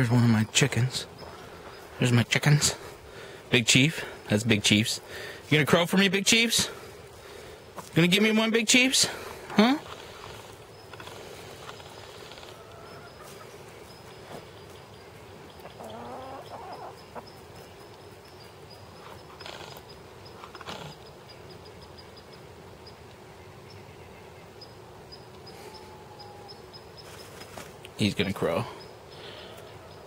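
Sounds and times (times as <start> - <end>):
chickens clucking: 0.0 - 21.2, 25.3 - 30.0.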